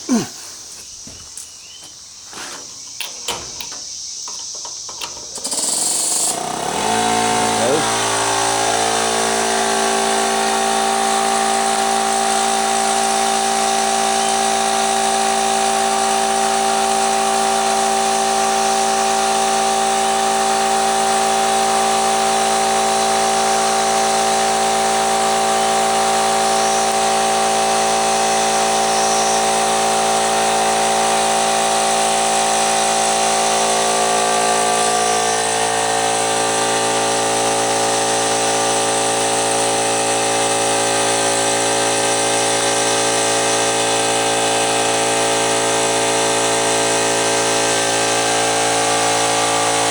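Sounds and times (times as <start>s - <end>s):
air compressor humming: 0.0s - 49.9s.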